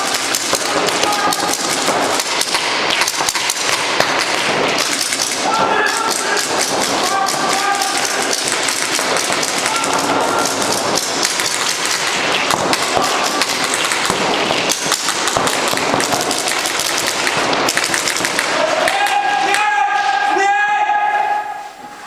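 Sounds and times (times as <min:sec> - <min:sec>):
paintball markers firing: 0:00.0 - 0:19.7.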